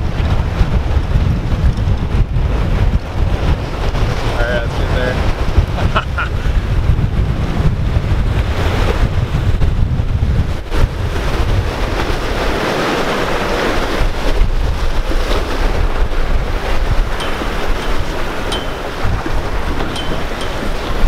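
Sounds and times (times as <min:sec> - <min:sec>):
waves splashing along hull: 0:00.0 - 0:21.0
wind buffeting microphone: 0:00.0 - 0:21.0.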